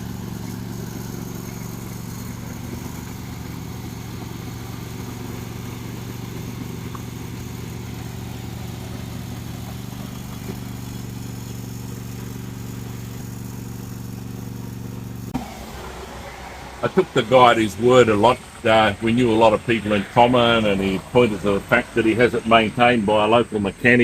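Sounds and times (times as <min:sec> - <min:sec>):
lawn tractor engine running: 0:00.0 - 0:24.0.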